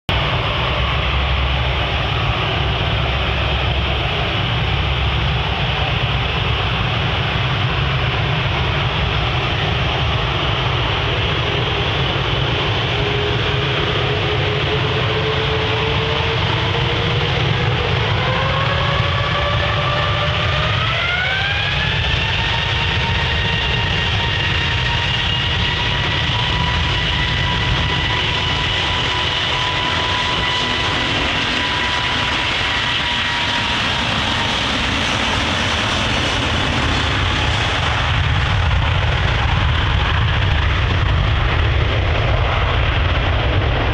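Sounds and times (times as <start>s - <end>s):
jet engine whine rising: 0.1s - 43.9s
jet engines rumbling: 0.1s - 43.9s.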